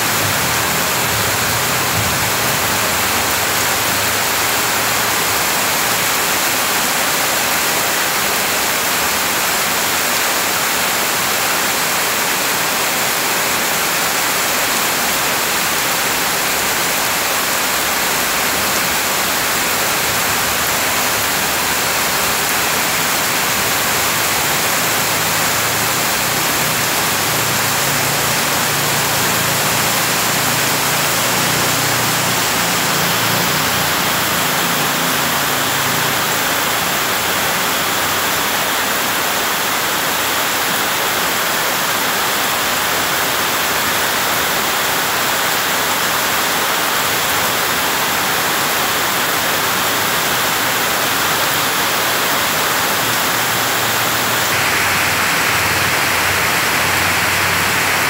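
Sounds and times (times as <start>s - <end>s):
heavy rain on grass: 0.0s - 58.0s
runoff water falling: 0.0s - 58.0s.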